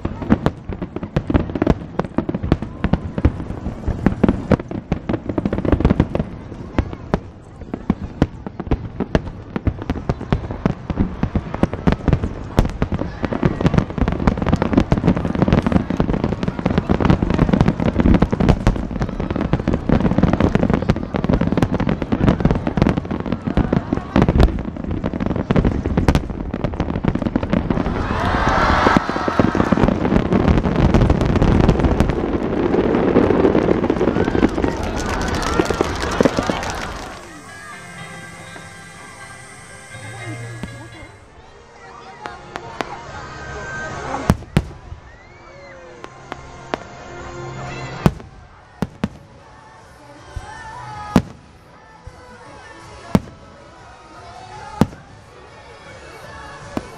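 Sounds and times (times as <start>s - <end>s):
fireworks bursting: 0.0s - 41.6s, 43.8s - 56.9s.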